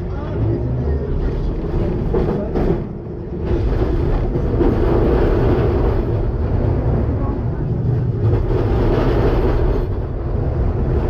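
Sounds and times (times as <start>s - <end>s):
tram wheels on rails: 0.0s - 11.0s.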